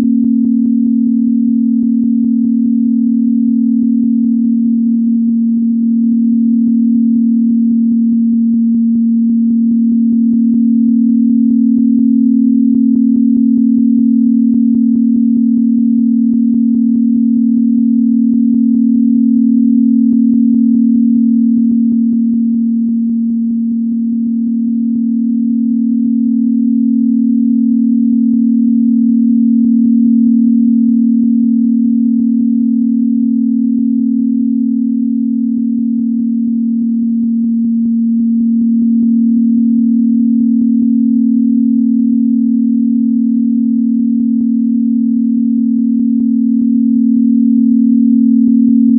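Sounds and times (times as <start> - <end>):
steady pure low synthesized tone: 0.0 - 48.9.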